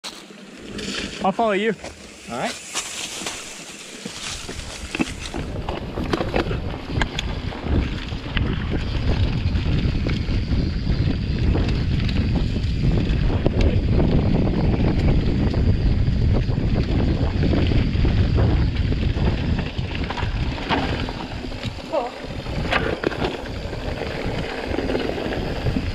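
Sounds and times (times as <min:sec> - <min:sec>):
tyres rolling over leaves and dirt: 0:00.0 - 0:15.9, 0:16.5 - 0:25.9
bike clicks and rattles: 0:00.2 - 0:25.9
wind buffeting microphone: 0:04.2 - 0:25.9.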